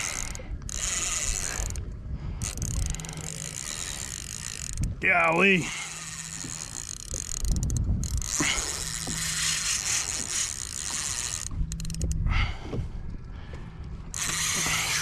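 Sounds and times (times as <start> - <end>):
fishing reel whirring: 0.0 - 12.2, 14.1 - 15.0
reel clicks: 0.0 - 12.3, 13.2 - 15.0.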